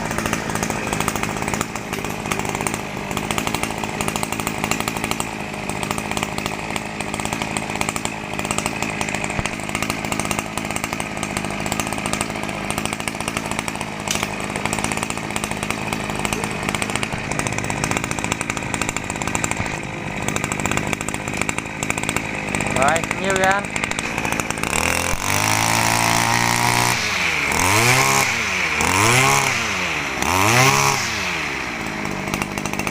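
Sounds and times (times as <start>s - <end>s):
brush cutter engine running: 0.0s - 32.9s.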